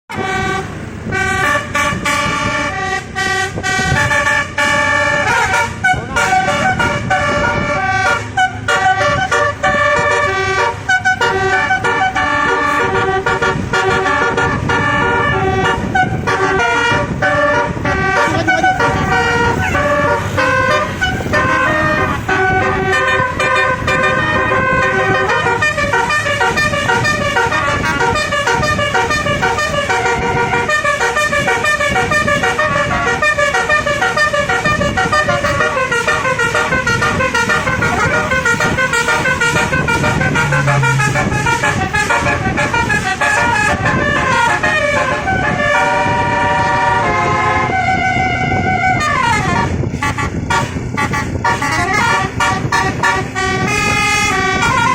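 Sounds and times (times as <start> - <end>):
multi-tone vehicle horn melody: 0.1 - 54.9.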